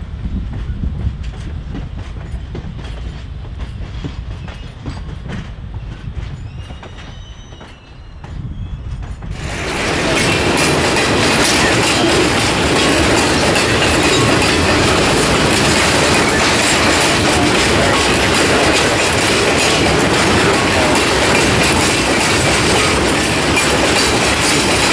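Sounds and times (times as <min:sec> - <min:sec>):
railcar wheels rumbling on rails: 0:00.0 - 0:24.9.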